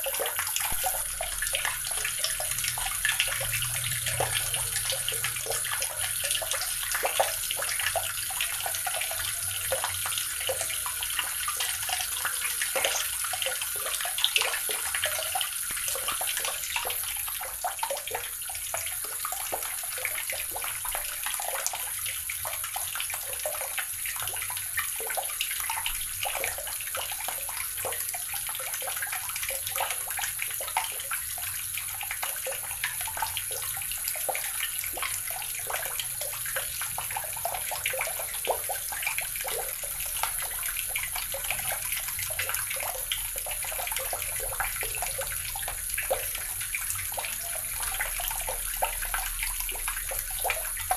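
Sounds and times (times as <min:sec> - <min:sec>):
water running from a tap: 0:00.0 - 0:50.9.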